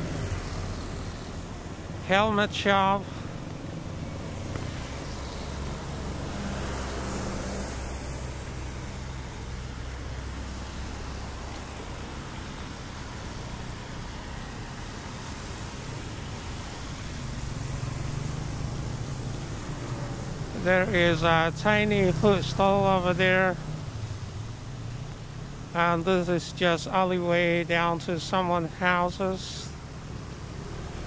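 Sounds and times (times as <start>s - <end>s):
cars passing on wet road: 0.0s - 31.0s.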